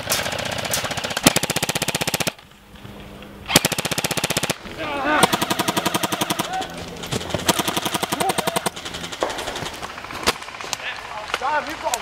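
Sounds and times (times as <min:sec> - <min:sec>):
airsoft guns firing full-auto: 0:00.0 - 0:02.4, 0:03.5 - 0:12.0.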